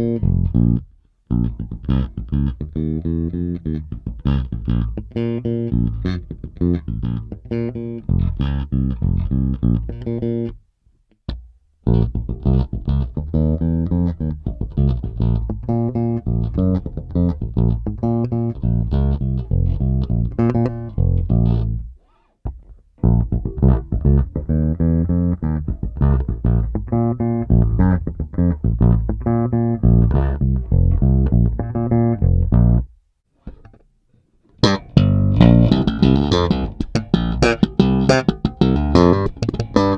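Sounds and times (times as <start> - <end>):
electric bass plucked fingerstyle: 0.0 - 39.9.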